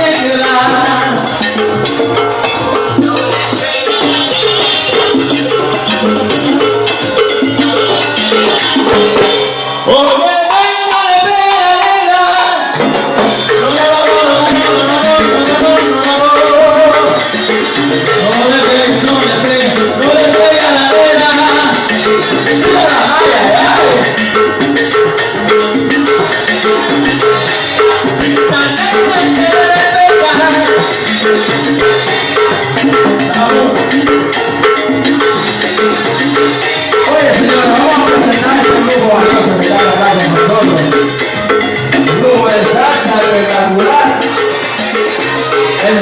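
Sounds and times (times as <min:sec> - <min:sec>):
salsa band with percussion: 0:00.0 - 0:46.0.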